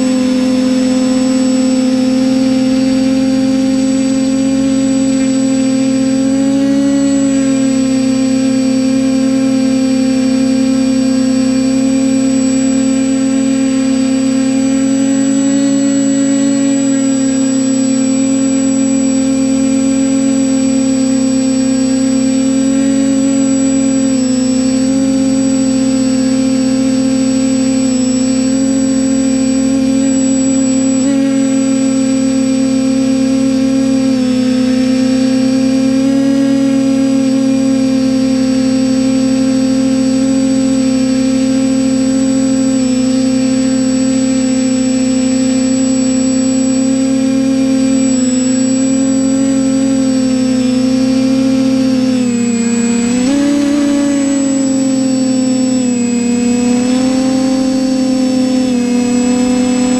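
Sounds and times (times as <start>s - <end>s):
drone motors humming: 0.0s - 59.9s
thin high whine: 0.0s - 59.9s.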